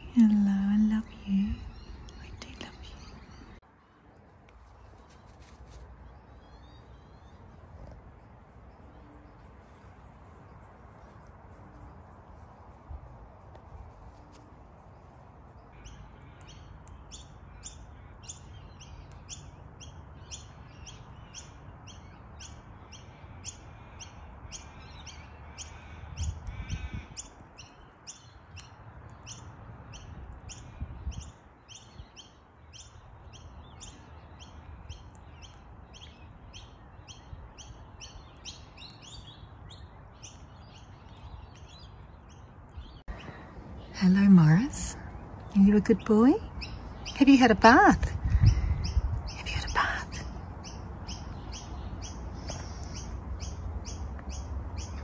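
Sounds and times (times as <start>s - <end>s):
small bird chirping: 0.0s - 3.6s, 4.5s - 55.0s.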